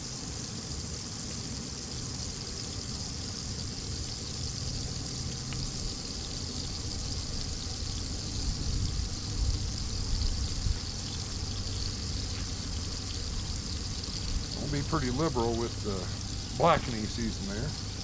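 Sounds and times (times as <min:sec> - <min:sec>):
butter and oil sizzling in a pan: 0:00.0 - 0:18.0
low rumble of camp stove: 0:00.0 - 0:18.0.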